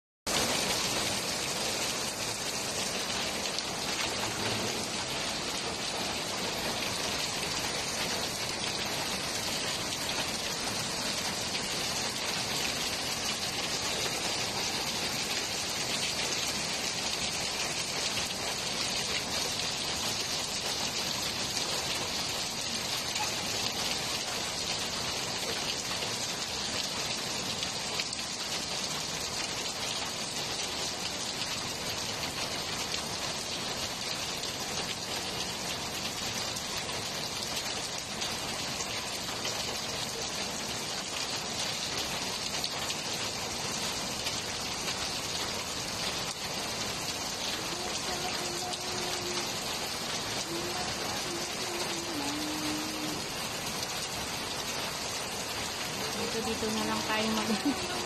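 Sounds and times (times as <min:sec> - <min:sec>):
heavy rain on concrete roof: 0:00.3 - 0:58.0.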